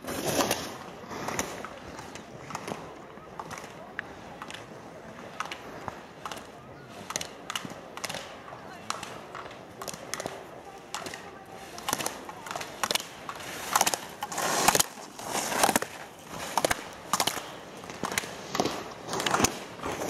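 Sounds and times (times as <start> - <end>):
skis swishing on hard snow: 0.0 - 20.0.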